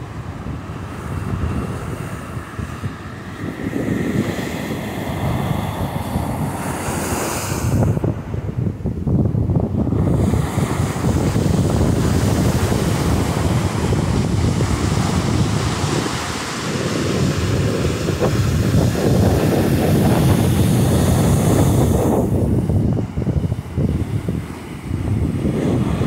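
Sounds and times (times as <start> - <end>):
small waves washing up beach: 0.0 - 8.9, 9.6 - 26.0
wind buffeting microphone: 0.0 - 26.0.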